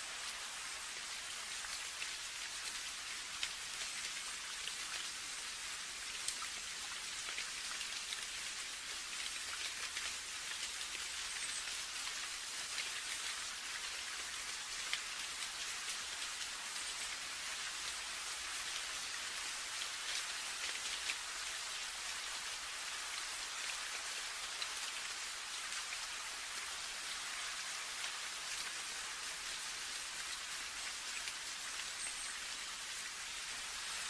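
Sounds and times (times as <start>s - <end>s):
steady rain with ticking drops: 0.0s - 34.0s.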